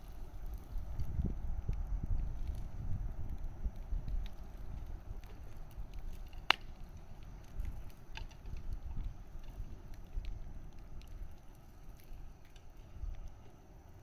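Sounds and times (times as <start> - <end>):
campfire crackling: 0.0 - 14.0
low steady rumble: 0.0 - 14.0.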